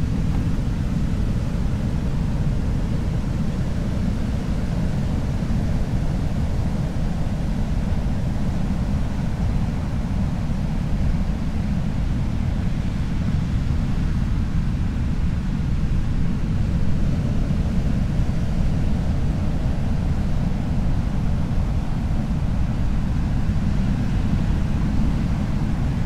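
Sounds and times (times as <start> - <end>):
ocean surf rumble: 0.0 - 26.0.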